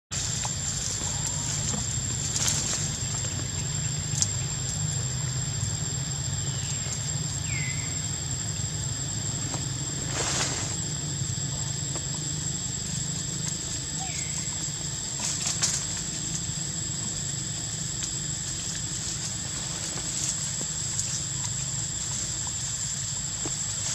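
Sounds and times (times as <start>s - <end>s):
rustles: 0.1s - 4.8s, 9.2s - 23.9s.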